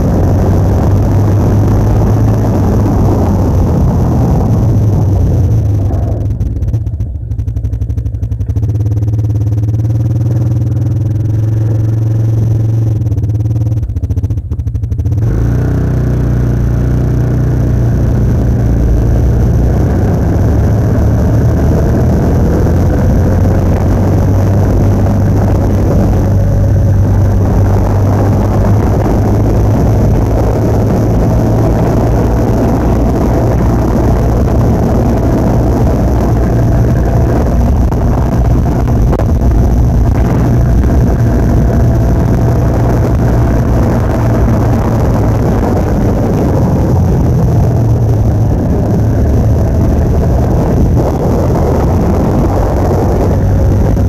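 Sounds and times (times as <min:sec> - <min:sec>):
vehicle engine droning: 0:00.0 - 0:54.0
wind and road noise: 0:00.0 - 0:54.0.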